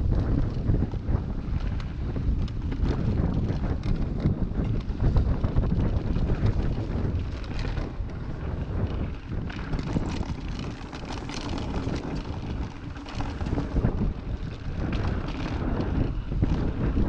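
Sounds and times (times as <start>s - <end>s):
bike clattering and rattling: 0.0s - 17.0s
tyres rumbling on dirt and stones: 0.0s - 17.0s
wind buffeting microphone: 0.0s - 17.0s.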